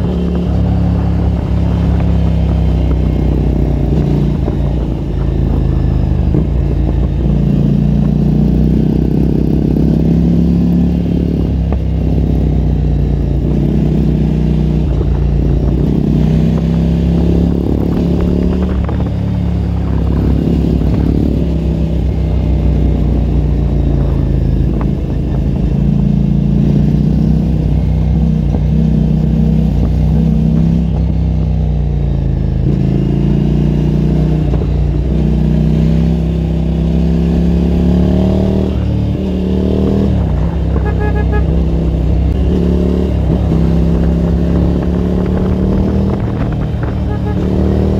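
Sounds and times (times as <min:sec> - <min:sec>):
motorcycle engine revving: 0:00.0 - 0:47.9
wind and road noise: 0:00.0 - 0:47.9.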